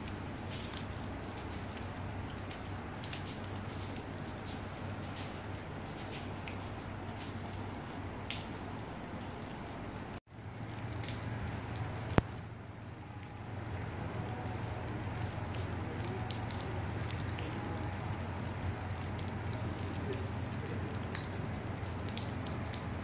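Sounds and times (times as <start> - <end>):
raindrops ticking: 0.0 - 23.0.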